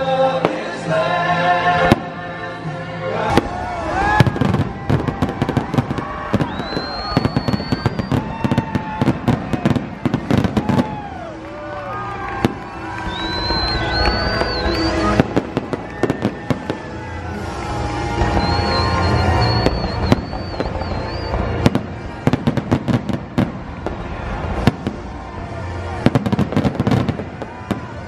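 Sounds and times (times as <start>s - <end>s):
music playing: 0.0s - 28.0s
fireworks bangs and crackles: 0.3s - 1.1s, 1.7s - 2.3s, 3.3s - 28.0s.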